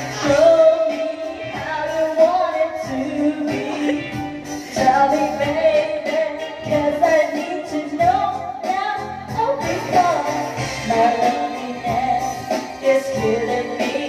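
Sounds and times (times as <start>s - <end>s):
pop backing track: 0.0s - 14.0s
woman singing into a microphone: 0.0s - 14.0s.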